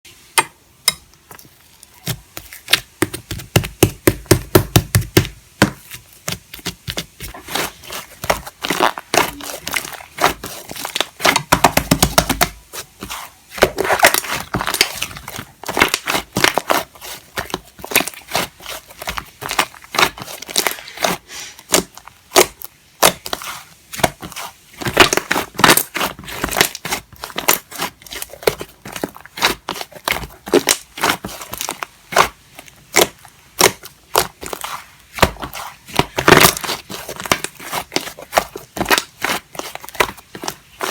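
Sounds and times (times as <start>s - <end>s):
slime being squished by hand: 1.2s - 40.9s.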